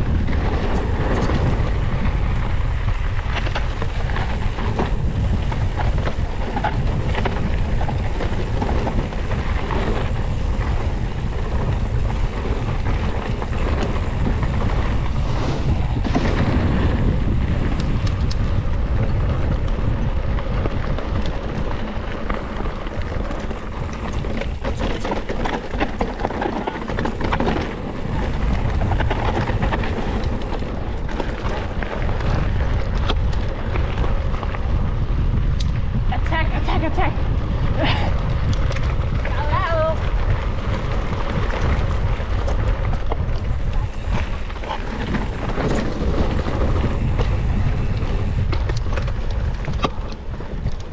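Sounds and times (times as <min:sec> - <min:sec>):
mountain bike rattle and tyre noise: 0:00.0 - 0:50.9
wind buffeting microphone: 0:00.0 - 0:50.9.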